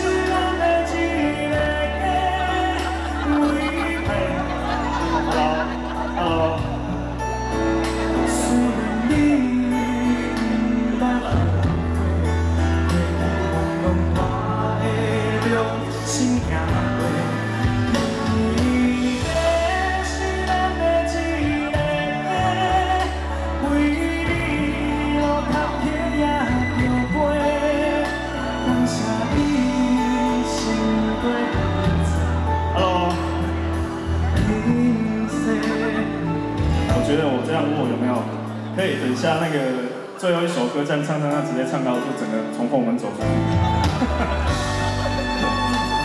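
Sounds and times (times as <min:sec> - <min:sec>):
amplified band accompaniment: 0:00.0 - 0:46.0
man singing pop ballad: 0:00.0 - 0:46.0.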